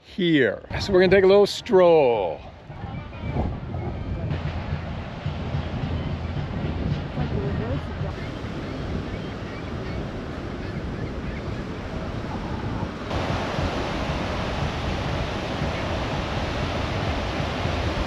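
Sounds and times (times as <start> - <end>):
wind on microphone: 0.7 - 18.0
surf breaking on beach: 3.5 - 18.0.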